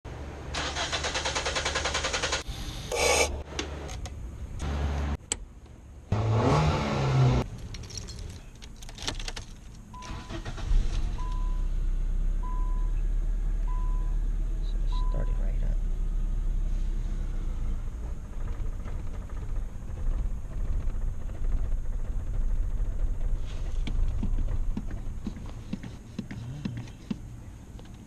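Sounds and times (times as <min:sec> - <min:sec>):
car engine cranking and running: 0:00.4 - 0:28.0.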